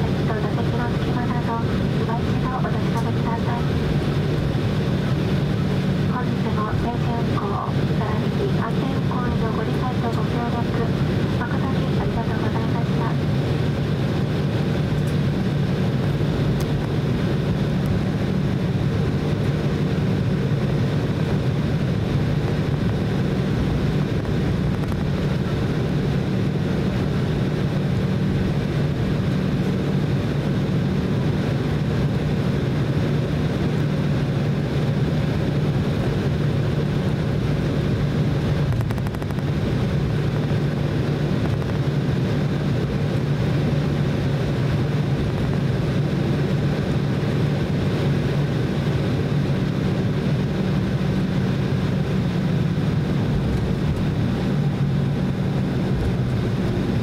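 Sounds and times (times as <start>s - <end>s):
jet engines humming: 0.0s - 57.0s
rumbling cabin background: 0.0s - 57.0s.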